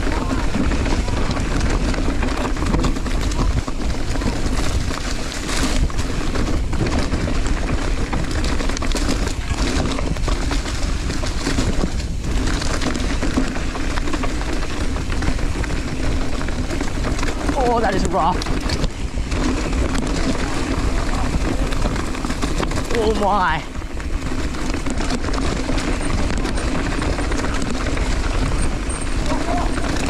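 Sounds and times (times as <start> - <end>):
bike tyres rumbling over dirt: 0.0 - 30.0.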